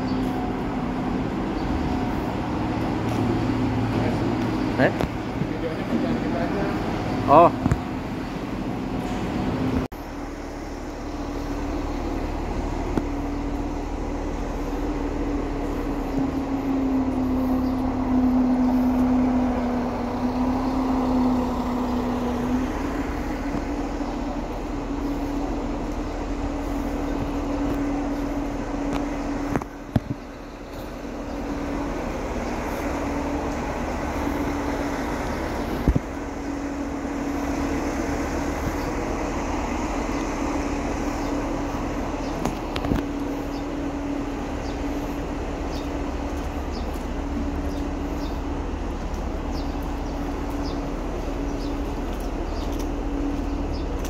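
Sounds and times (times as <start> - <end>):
road noise: 0.0 - 54.0
vehicle engine droning: 0.0 - 54.0.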